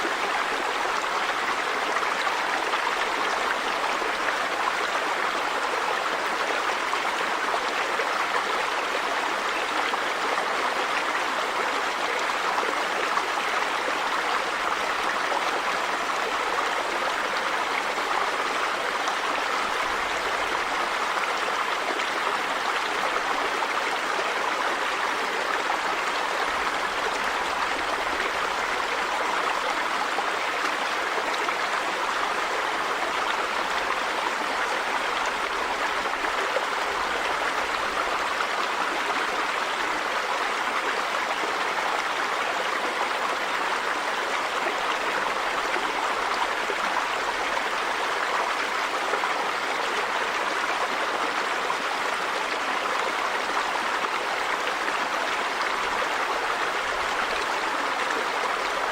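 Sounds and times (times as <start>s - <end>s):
river water flowing over stones: 0.0s - 58.9s.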